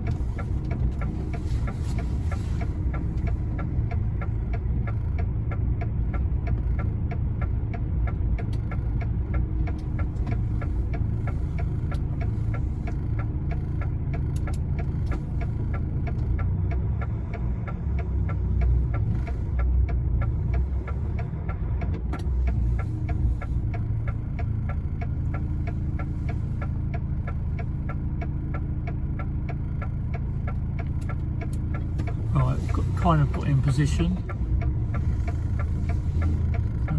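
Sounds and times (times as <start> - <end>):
diesel engine running at low revs: 0.0 - 36.9
steady fast ticking: 0.0 - 36.9.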